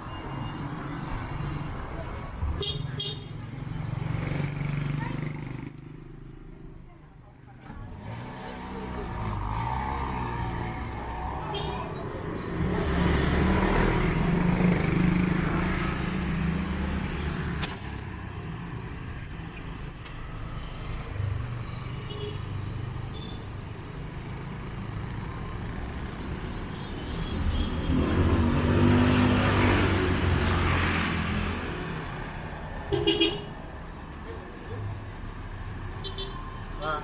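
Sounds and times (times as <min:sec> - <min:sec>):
vehicle engines passing close: 0:00.0 - 0:26.4, 0:27.4 - 0:37.0
traffic noise: 0:00.0 - 0:37.0.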